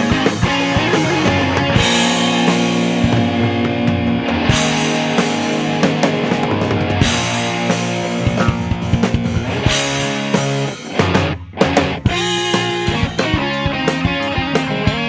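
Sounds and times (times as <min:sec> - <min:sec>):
sustained guitar notes: 0:00.0 - 0:12.5
drum kit hits and cymbals: 0:00.0 - 0:15.0.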